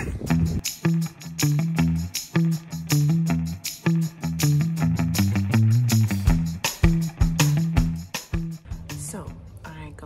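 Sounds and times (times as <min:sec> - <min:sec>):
background music with steady beat: 0:00.2 - 0:10.0.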